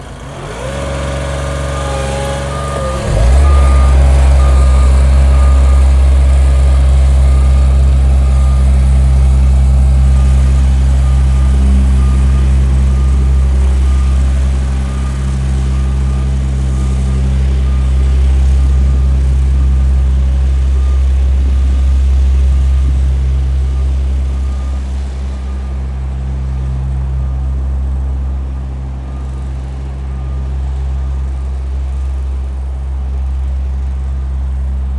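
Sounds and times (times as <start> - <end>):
road roller deep hum: 0.0 - 34.9
reversing alarm beeping: 0.2 - 32.2.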